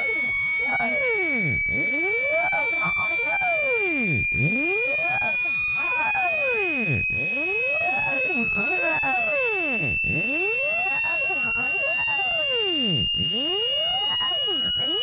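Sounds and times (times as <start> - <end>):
low electronic pitch sweeps: 0.0 - 15.0
piercing high electronic tone: 0.0 - 15.0.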